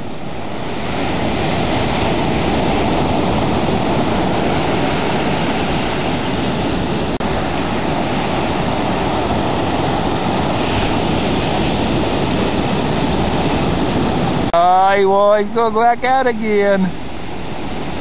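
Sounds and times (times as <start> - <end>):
ocean surf breaking: 0.0 - 18.0.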